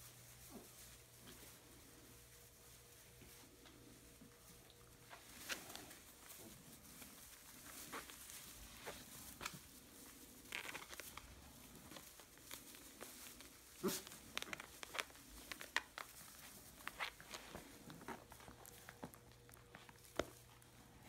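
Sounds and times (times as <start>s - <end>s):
puppies rustling in straw: 0.0s - 21.0s.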